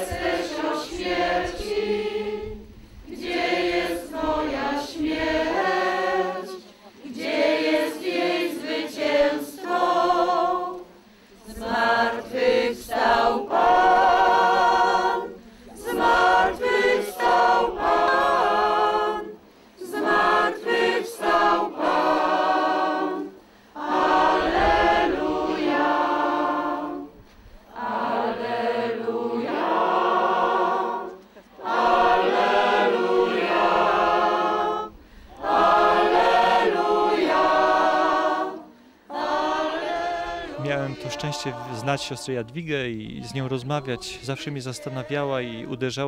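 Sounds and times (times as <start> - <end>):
congregation singing a hymn: 0.0 - 46.0.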